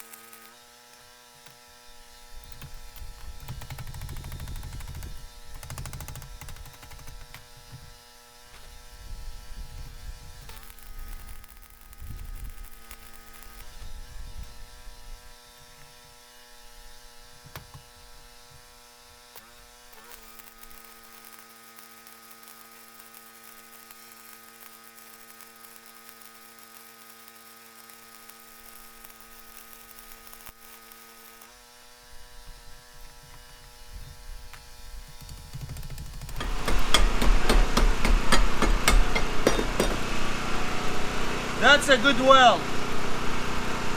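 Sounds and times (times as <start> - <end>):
faint hiss of welding arc: 0.0 - 37.8
welder electric hum: 0.0 - 43.9.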